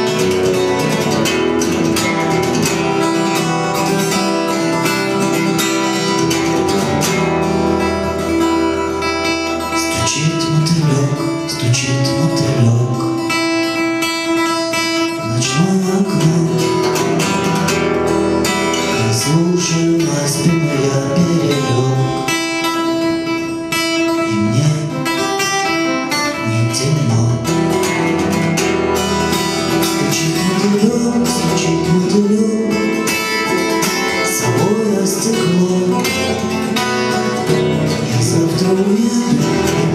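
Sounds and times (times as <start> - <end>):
acoustic guitar music: 0.0 - 39.9.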